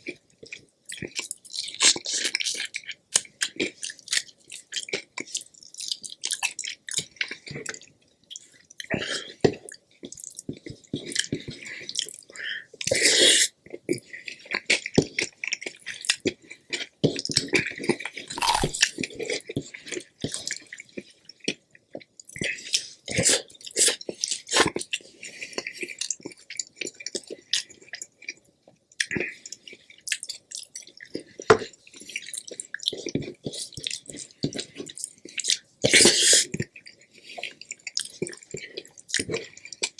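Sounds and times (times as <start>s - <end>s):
chewing food: 0.0s - 39.9s.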